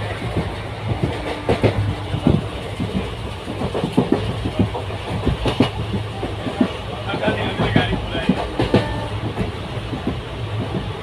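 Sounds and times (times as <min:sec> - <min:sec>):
train rumbling: 0:00.0 - 0:11.0
train wheels clattering on track: 0:00.0 - 0:11.0.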